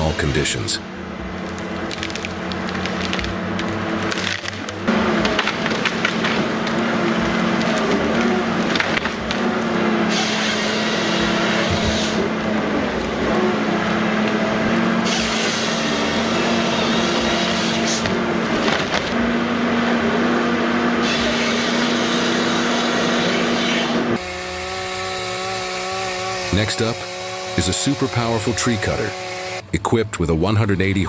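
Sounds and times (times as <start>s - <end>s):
wood crushing and grinding: 0.0s - 29.8s
diesel engine hum: 0.0s - 31.0s.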